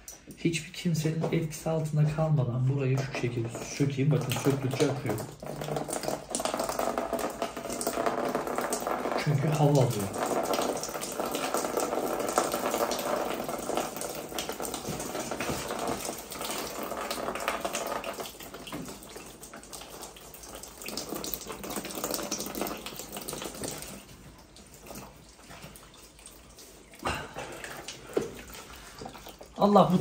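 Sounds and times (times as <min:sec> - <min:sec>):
water running from pipe: 0:00.0 - 0:30.0.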